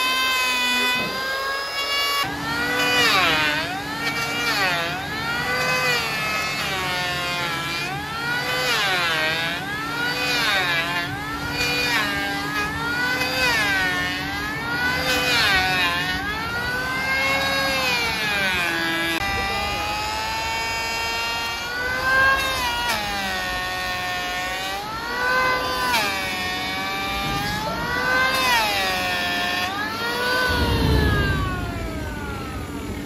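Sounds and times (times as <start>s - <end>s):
machine saw whining under load: 0.0s - 33.0s.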